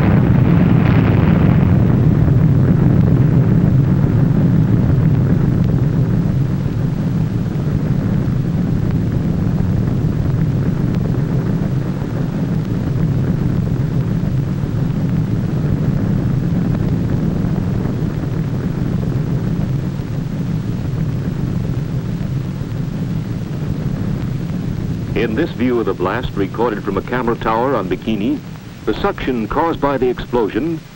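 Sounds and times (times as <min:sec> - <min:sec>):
explosion low rumbling roar: 0:00.0 - 0:28.6.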